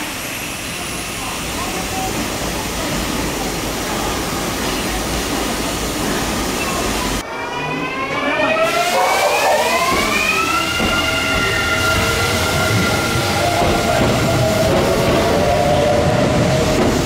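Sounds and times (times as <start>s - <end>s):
train rushing: 0.0s - 17.0s.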